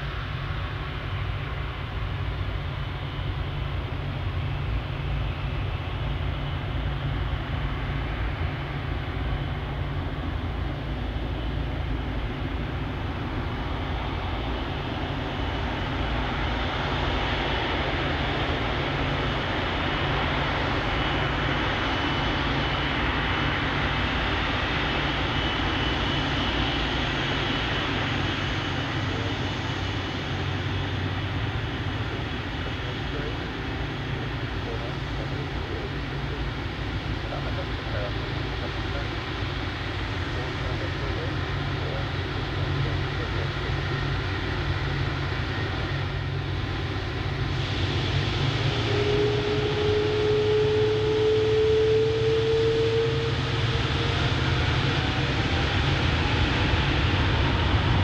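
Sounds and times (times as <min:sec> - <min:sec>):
jet engines rumbling and whining: 0:00.0 - 0:58.0.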